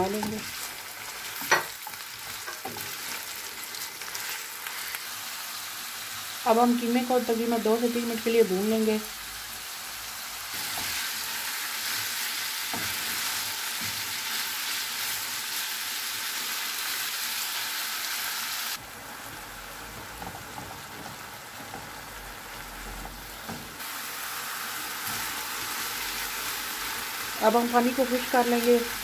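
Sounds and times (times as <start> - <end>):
meat sizzling in oil: 0.0 - 29.0.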